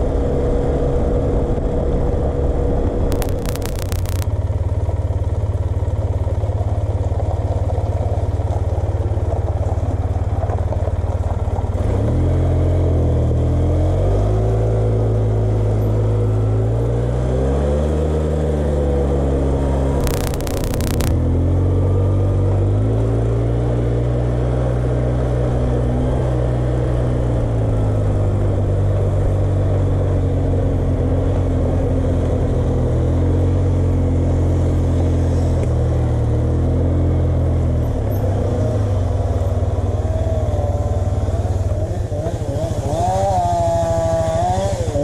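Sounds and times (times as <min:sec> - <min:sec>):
quad engine running: 0:00.0 - 0:45.0.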